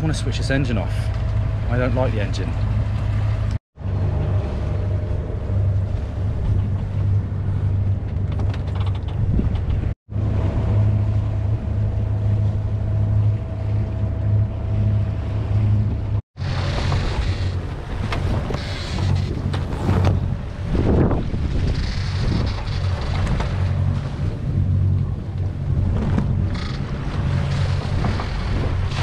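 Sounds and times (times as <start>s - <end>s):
boat engine humming: 0.0s - 29.0s
wind on microphone: 2.4s - 29.0s.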